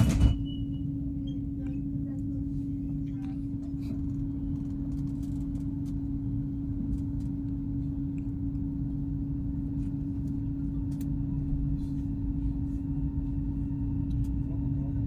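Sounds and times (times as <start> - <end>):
constant hum: 0.0 - 15.0
train low rumble: 0.0 - 15.0.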